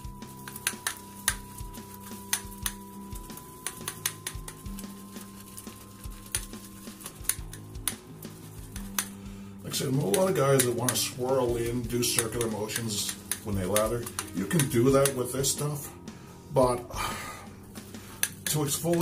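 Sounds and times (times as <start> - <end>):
shaving brush tapping glass jar: 0.0 - 15.8, 18.2 - 19.0
soft background music: 0.0 - 19.0.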